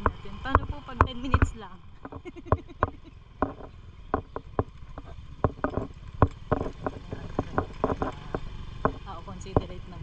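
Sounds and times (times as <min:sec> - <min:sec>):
knocks and rattles on rough track: 0:00.0 - 0:10.0
scooter engine running: 0:00.0 - 0:10.0.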